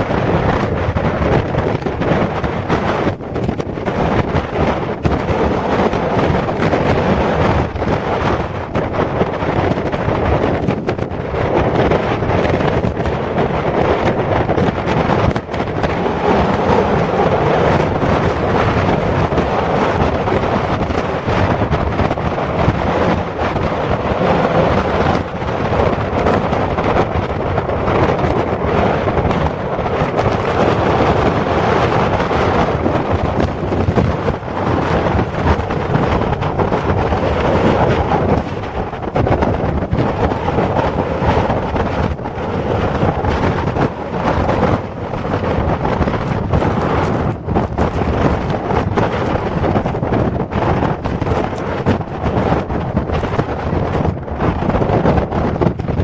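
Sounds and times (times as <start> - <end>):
strong wind buffeting microphone: 0.0 - 56.0.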